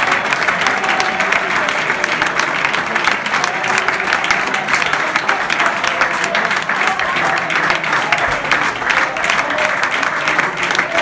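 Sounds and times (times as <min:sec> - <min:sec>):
audience applauding: 0:00.0 - 0:11.0
crowd voices: 0:00.0 - 0:11.0.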